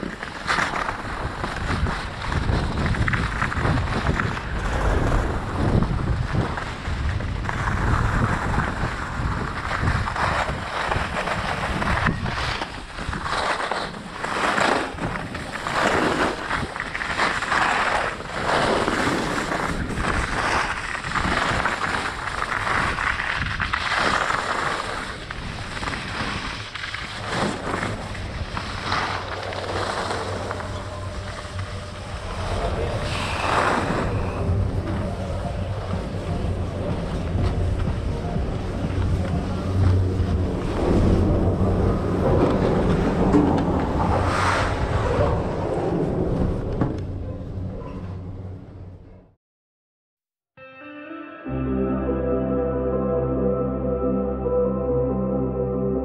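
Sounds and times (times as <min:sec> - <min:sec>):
skis scraping over snow: 0:00.0 - 0:46.7
wind buffeting microphone: 0:00.9 - 0:17.5, 0:18.2 - 0:47.7.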